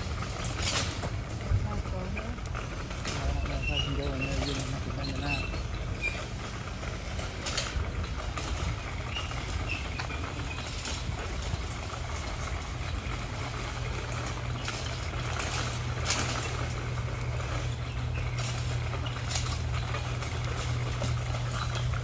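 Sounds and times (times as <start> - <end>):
cart wheels rumbling on concrete: 0.0 - 22.0
metal frame rattling: 0.0 - 22.0.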